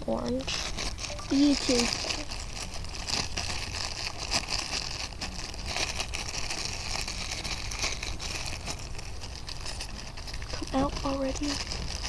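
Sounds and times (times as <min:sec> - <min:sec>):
plastic packaging crinkling: 0:00.2 - 0:12.0.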